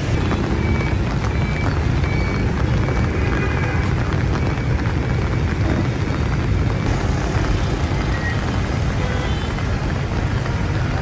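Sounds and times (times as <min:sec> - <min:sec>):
vehicles driving through floodwater: 0:00.0 - 0:11.0.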